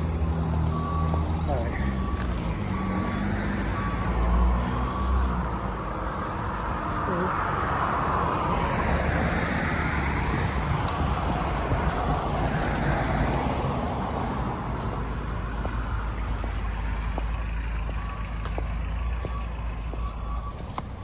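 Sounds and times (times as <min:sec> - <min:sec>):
cars passing: 0:00.0 - 0:21.0
steady low traffic rumble: 0:00.0 - 0:21.0.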